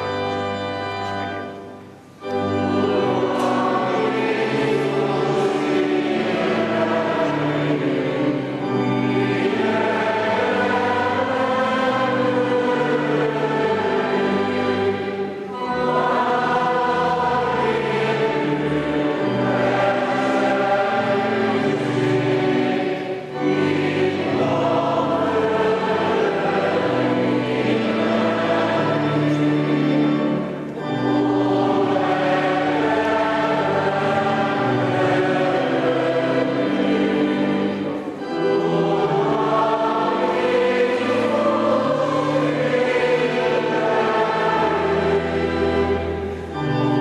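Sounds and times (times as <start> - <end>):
choir singing a hymn: 0.0 - 47.0.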